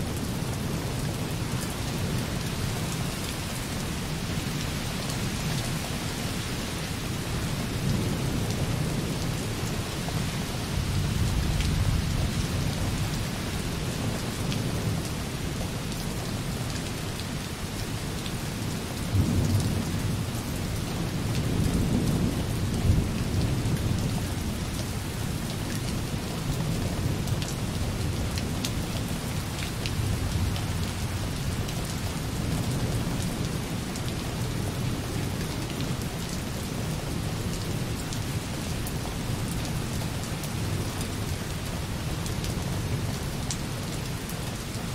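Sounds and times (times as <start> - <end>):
light rain on a window: 0.0 - 44.9.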